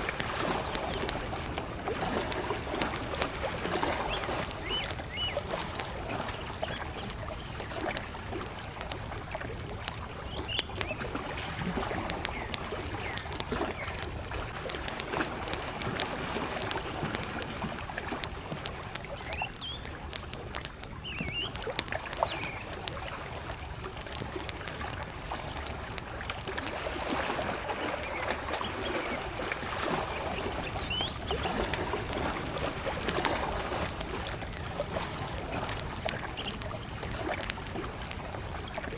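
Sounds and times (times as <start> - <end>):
campfire crackling: 0.0 - 38.9
waves lapping at shore: 0.0 - 38.9.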